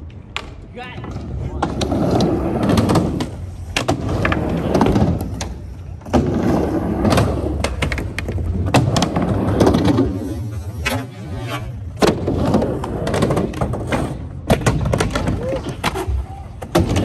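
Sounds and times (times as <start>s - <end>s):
skateboard wheels rumbling: 0.0s - 17.0s.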